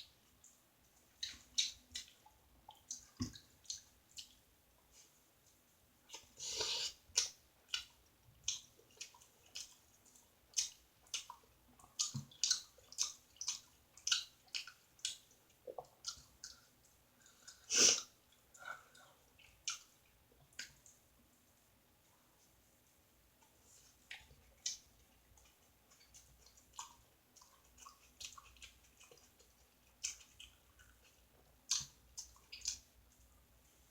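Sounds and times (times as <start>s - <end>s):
wet chewing and lip-smacking: 0.4s - 4.4s, 6.1s - 21.0s, 23.4s - 33.9s.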